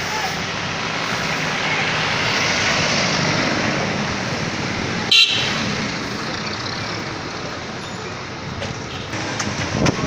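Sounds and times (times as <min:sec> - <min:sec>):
passing road traffic: 0:00.0 - 0:10.0.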